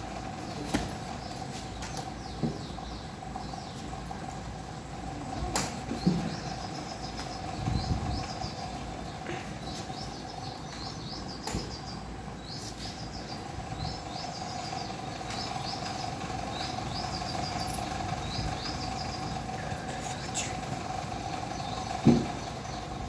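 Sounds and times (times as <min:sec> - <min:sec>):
small birds chirping: 0:00.0 - 0:23.0
steady hum: 0:00.0 - 0:23.0.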